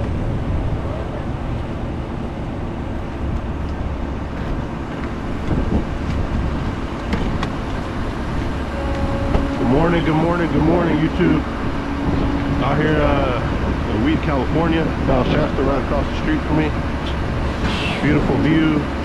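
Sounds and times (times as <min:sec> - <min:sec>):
highway traffic rumble: 0:00.0 - 0:19.0
wind buffeting microphone: 0:00.0 - 0:19.0.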